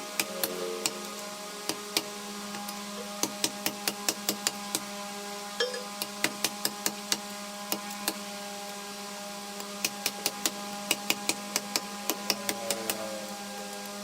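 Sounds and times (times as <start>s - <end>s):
woodworking machine motor hum: 0.0s - 14.0s.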